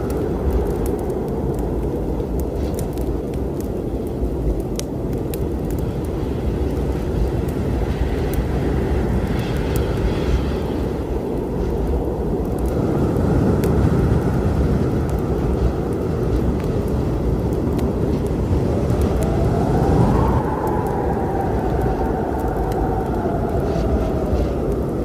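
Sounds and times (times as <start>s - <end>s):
faint wood fire crackles: 0.0s - 25.0s
storm wind rumbling and howling: 0.0s - 25.0s.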